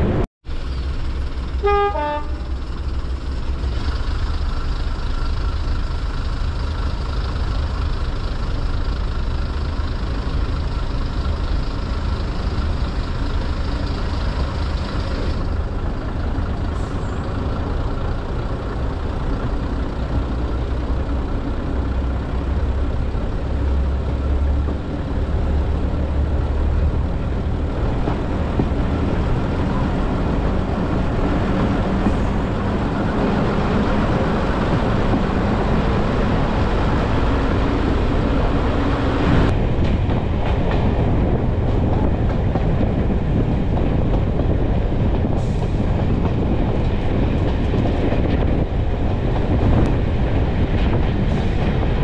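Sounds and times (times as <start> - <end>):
train engine drone: 0.0 - 52.0
wheels on rails: 0.5 - 52.0.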